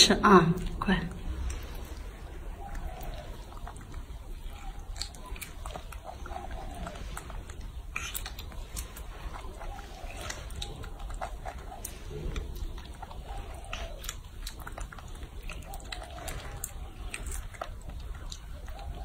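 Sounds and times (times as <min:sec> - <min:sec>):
low hum: 0:00.0 - 0:19.0
monkey chewing fruit: 0:00.0 - 0:19.0.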